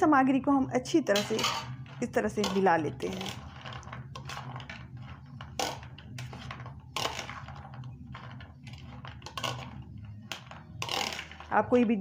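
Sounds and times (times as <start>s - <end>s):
spoon scraping and clinking bowl: 1.1s - 11.7s.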